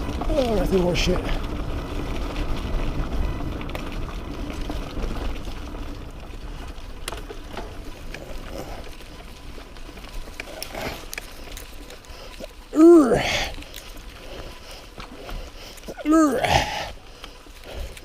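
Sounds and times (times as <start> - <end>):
bike clicks and rattles: 0.0 - 18.0
mountain bike rumbling on dirt: 0.0 - 18.0.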